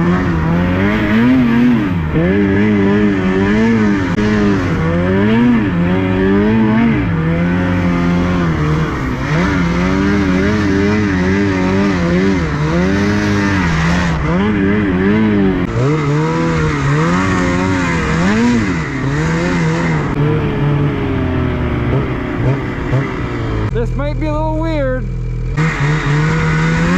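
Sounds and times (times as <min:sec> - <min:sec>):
snowmobile engine revving: 0:00.0 - 0:26.9.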